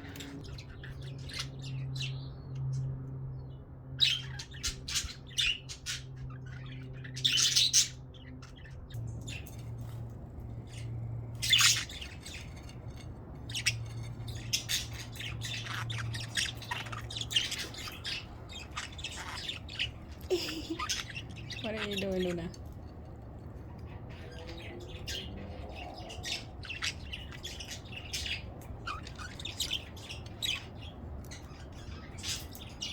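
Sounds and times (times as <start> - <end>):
budgerigars chirping and squawking: 0.0 - 32.9
steady low hum: 3.0 - 32.9.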